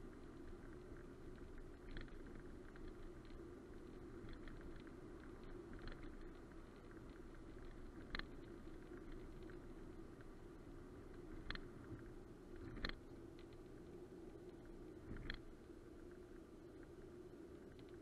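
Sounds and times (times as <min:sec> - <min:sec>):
faint ticks: 0:00.0 - 0:18.0.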